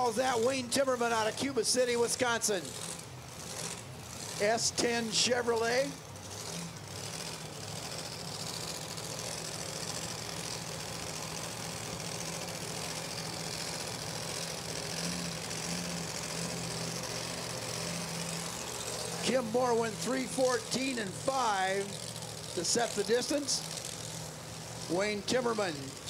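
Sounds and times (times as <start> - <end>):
supercharged truck engine under load: 0.0 - 26.0.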